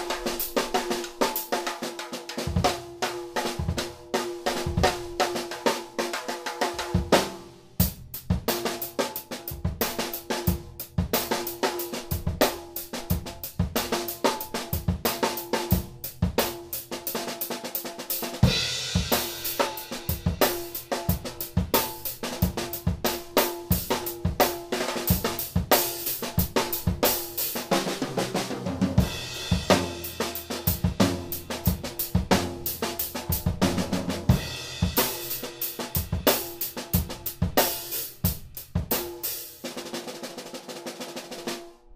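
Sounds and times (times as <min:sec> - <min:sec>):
drum kit groove: 0:00.0 - 0:41.9.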